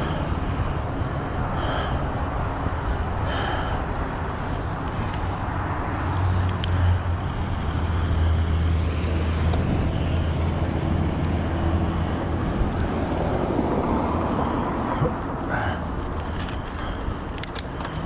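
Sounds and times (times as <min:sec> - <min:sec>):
traffic engine hum: 0:00.0 - 0:18.0
wind rushing over microphone: 0:00.0 - 0:18.0.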